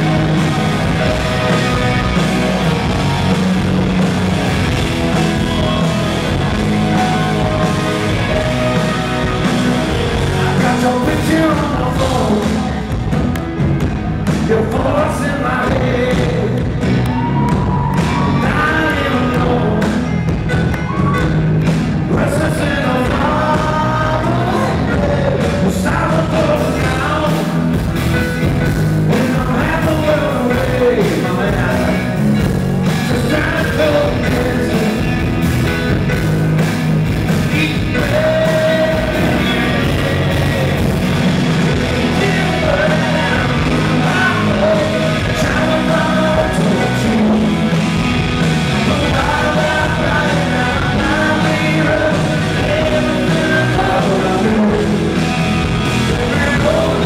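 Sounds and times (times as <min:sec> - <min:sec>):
rock band playing live: 0:00.0 - 0:57.0
man singing lead vocal: 0:05.4 - 0:13.3, 0:14.2 - 0:20.5, 0:22.0 - 0:28.0, 0:28.6 - 0:36.2, 0:37.1 - 0:57.0.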